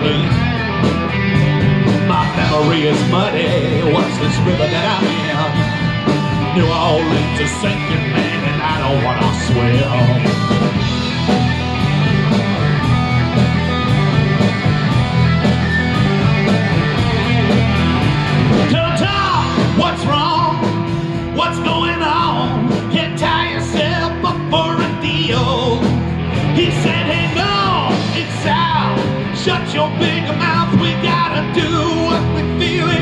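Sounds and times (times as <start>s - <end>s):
lead guitar with bending pitches: 0.0s - 33.0s
live rock band playing: 0.0s - 33.0s.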